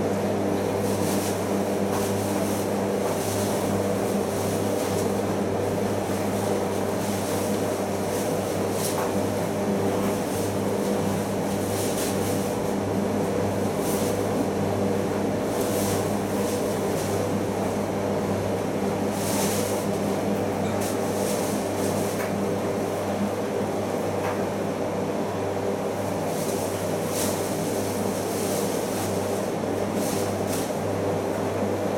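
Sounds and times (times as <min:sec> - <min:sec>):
washing machine motor hum: 0:00.0 - 0:31.9.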